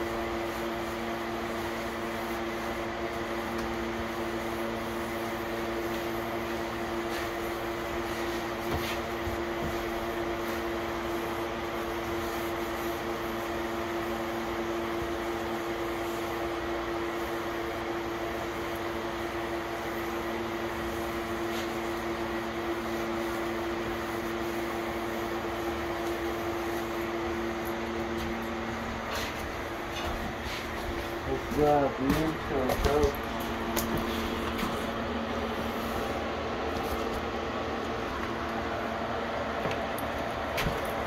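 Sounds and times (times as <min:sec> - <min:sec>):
electric fan running: 0:00.0 - 0:41.0.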